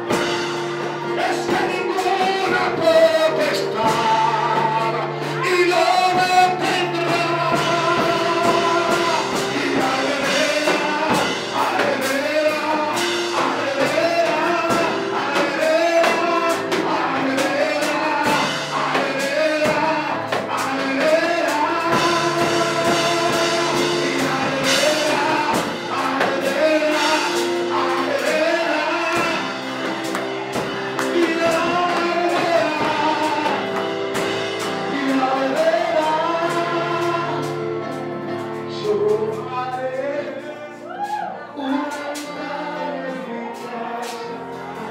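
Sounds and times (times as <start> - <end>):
drums: 0.0 - 39.8, 43.5 - 44.9
worship singing with band: 0.0 - 44.9.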